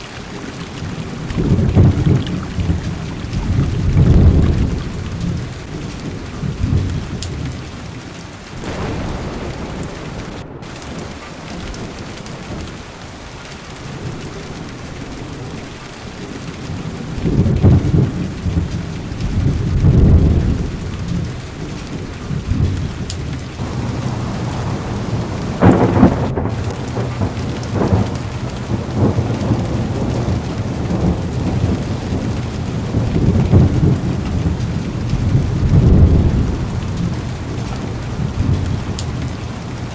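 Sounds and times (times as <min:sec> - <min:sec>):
heavy rain: 0:00.0 - 0:39.9
rolling thunder: 0:00.9 - 0:07.7, 0:08.6 - 0:15.8, 0:16.6 - 0:39.9.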